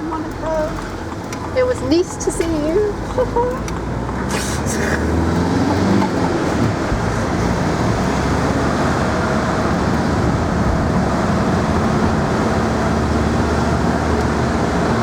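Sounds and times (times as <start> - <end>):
vehicle road and engine noise: 0.0 - 15.0.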